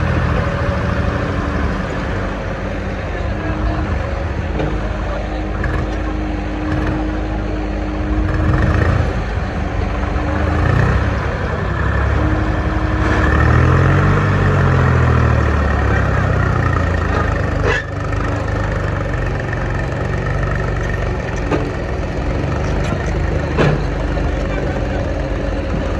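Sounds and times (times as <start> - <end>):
diesel engine revving: 0.0 - 25.9.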